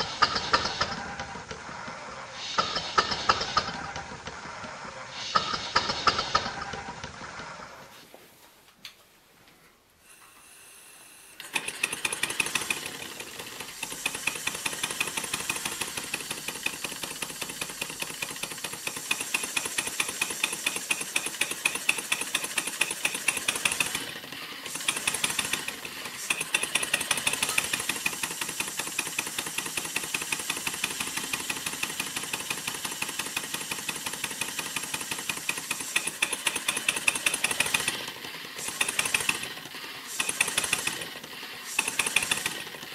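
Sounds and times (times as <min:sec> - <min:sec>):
model steam engine puffing: 0:00.0 - 0:07.8, 0:10.0 - 0:42.9.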